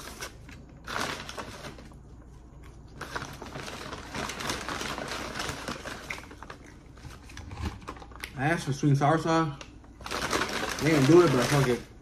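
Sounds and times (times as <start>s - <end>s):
paper bag rustling: 0.0s - 8.1s, 10.0s - 12.0s.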